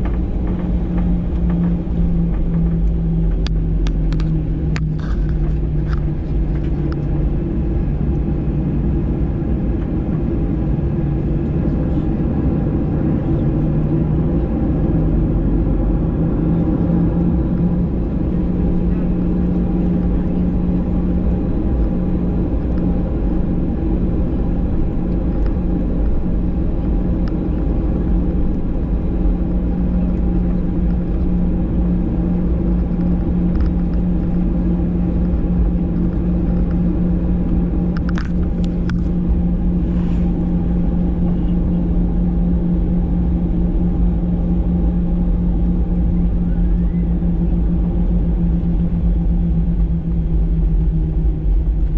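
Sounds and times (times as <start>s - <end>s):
jet engines rumbling in cabin: 0.0s - 51.9s.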